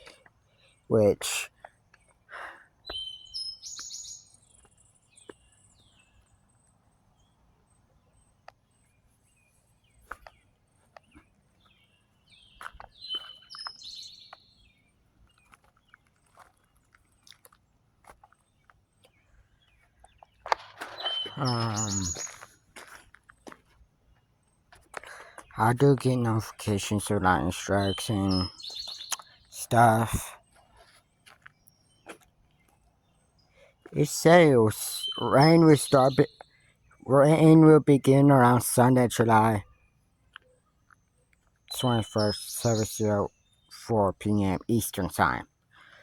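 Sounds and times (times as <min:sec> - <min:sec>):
songbird chirping: 0:00.0 - 0:46.0.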